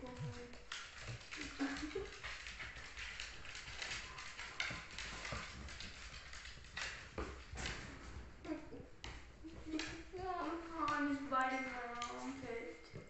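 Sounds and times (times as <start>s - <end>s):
dog claws clicking on wooden floor: 0.0s - 8.4s, 9.0s - 13.0s.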